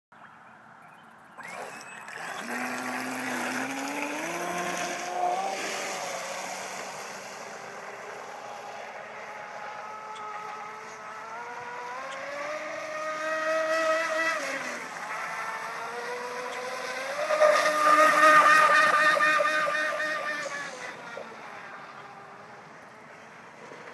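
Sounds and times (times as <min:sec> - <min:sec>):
electric boat motor whining: 0:01.4 - 0:23.0.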